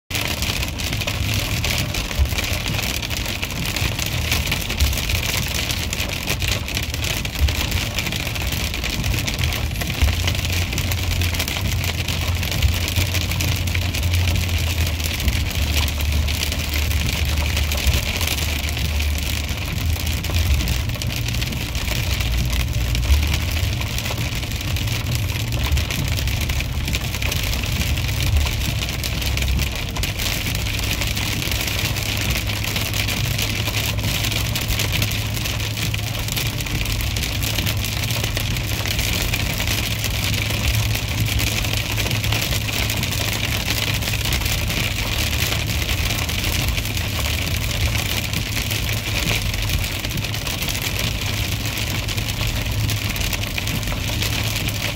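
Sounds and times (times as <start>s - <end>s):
car driving on wet road: 0.1s - 54.9s
sleet and rain on car roof: 0.1s - 54.9s.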